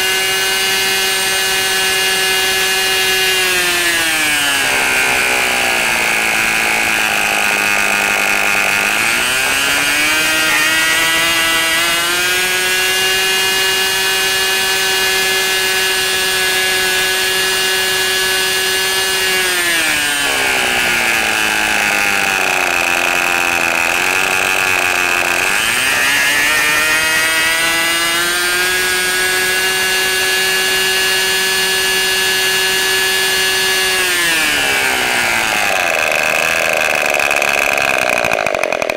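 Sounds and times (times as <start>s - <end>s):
model engine high-pitched buzz: 0.0s - 38.9s.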